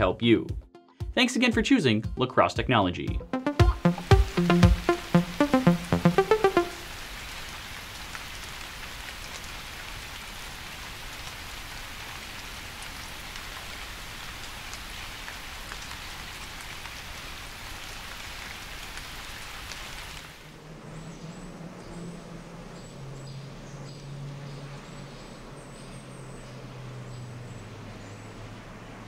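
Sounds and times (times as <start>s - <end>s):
steady rain: 3.7s - 29.0s.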